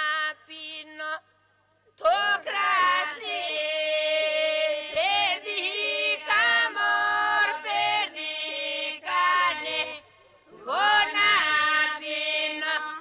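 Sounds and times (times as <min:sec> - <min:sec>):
women singing unaccompanied: 0:00.0 - 0:01.2, 0:02.0 - 0:13.0.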